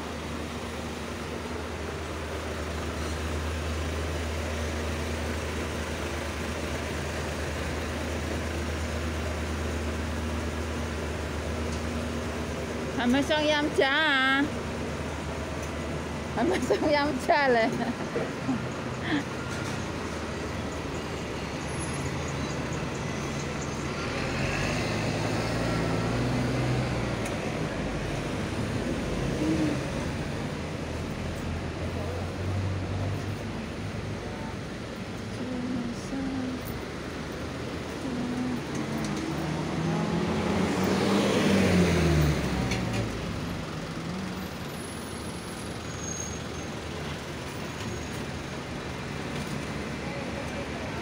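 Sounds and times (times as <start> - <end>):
buses and cars on road: 0.0 - 51.0
diesel truck engine humming: 0.0 - 51.0
street traffic noise: 0.0 - 51.0.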